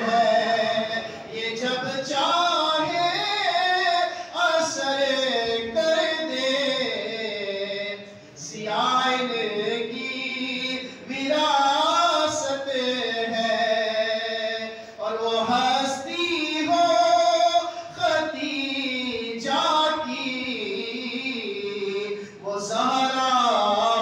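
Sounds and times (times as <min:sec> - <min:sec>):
man singing unaccompanied: 0:00.0 - 0:24.0.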